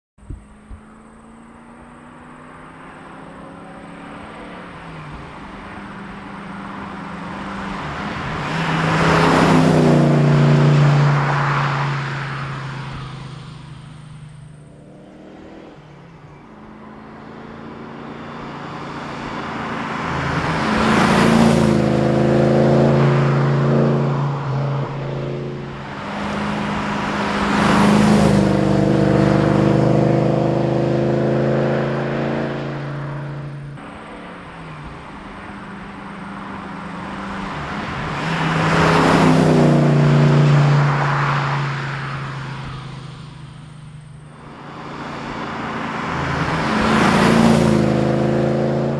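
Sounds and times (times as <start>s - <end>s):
car engine driving past: 0.5s - 48.9s.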